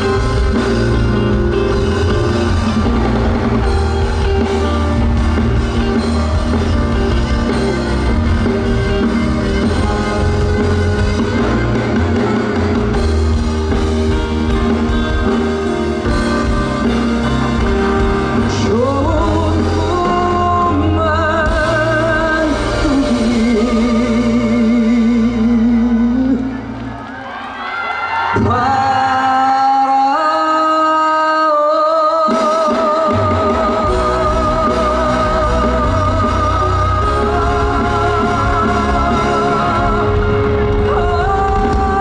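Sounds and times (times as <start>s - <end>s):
person singing with vibrato: 0.0s - 26.9s, 28.4s - 42.0s
rock band playing: 0.0s - 29.8s, 32.2s - 42.0s.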